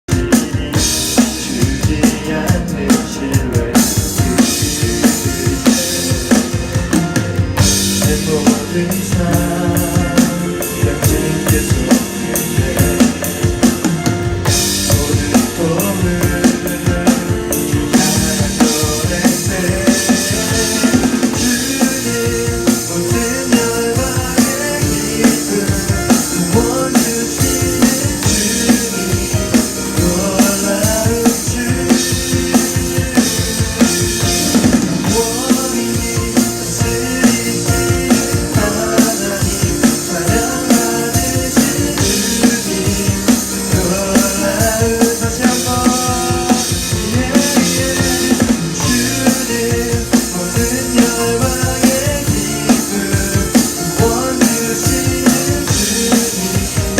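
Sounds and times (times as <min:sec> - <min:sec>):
backing track with bass: 0:00.0 - 0:56.9
electronic drum kit groove: 0:00.0 - 0:56.9.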